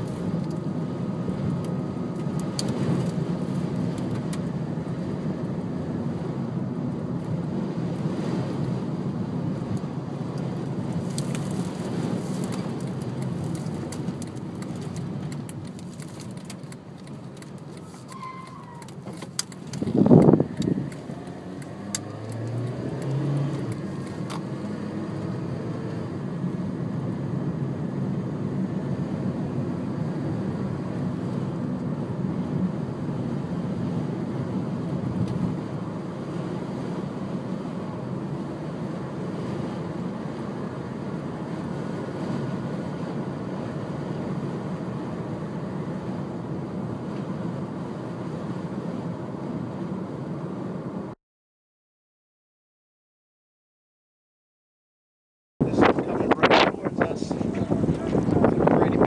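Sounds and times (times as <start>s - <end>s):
wind and road noise in car: 0.0s - 51.2s, 55.6s - 59.0s.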